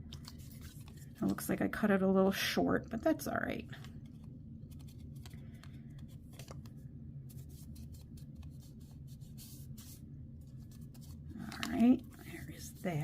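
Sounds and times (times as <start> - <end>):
steady low hum: 0.0 - 13.0
paper rustling: 0.1 - 1.6, 3.7 - 13.0.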